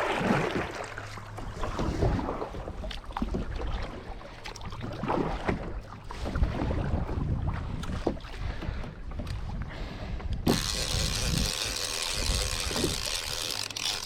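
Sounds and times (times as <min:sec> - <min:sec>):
low water noise: 0:00.0 - 0:14.0
paddle strokes in water: 0:00.0 - 0:14.0.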